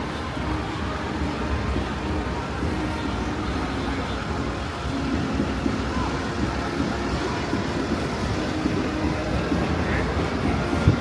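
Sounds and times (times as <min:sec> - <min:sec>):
engine hum: 0:00.0 - 0:11.0
vehicles passing: 0:00.0 - 0:11.0.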